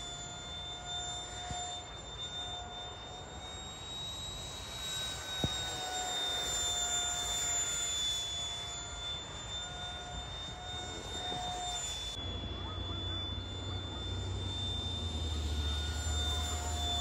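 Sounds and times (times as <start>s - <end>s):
electric ducted fan whining: 0.0s - 17.0s.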